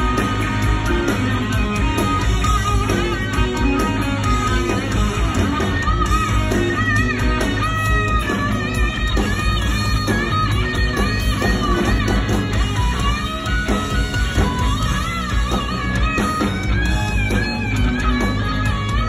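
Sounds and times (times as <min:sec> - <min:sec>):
electric guitar lead: 0:00.0 - 0:19.0
live rock band: 0:00.0 - 0:19.0.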